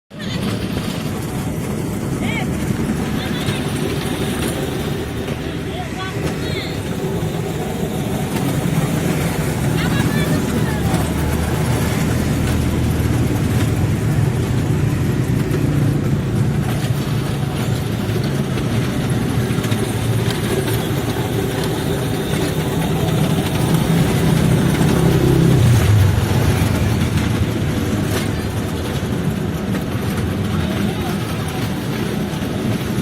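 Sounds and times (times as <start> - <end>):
train running on track: 0.1 - 33.0.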